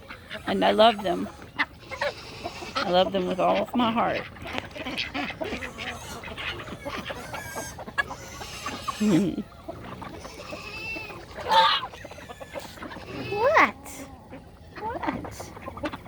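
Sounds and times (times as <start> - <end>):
poultry clucking and squawking: 0.0 - 16.0.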